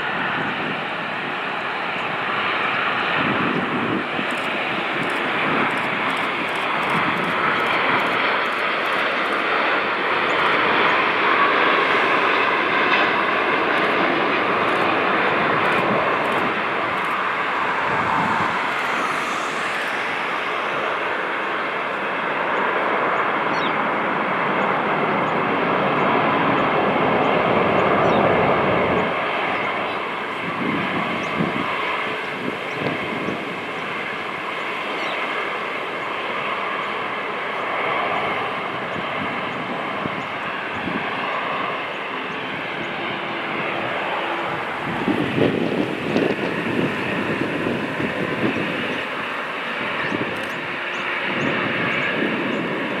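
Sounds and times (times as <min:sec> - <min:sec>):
jet engine roar: 0:00.0 - 0:53.0.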